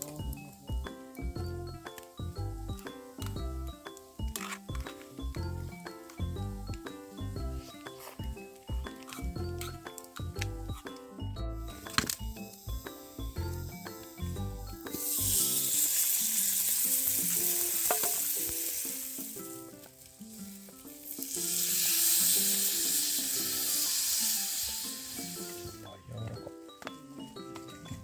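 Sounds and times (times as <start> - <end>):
food sizzling in a pan: 0.0 - 10.2, 11.6 - 26.0
soft background music: 0.0 - 28.0.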